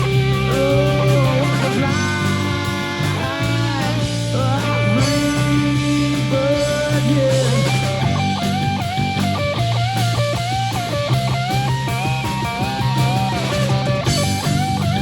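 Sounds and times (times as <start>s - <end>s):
electric guitar bending notes: 0.0s - 15.0s
rock band playing live: 0.0s - 15.0s.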